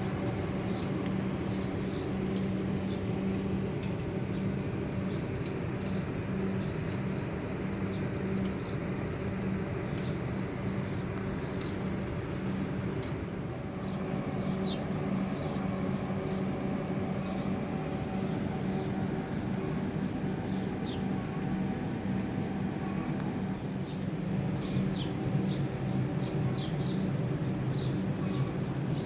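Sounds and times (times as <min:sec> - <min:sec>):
diesel train idling: 0:00.0 - 0:29.0
small birds chirping: 0:00.2 - 0:09.2, 0:09.8 - 0:12.0, 0:13.0 - 0:22.1, 0:23.5 - 0:29.0.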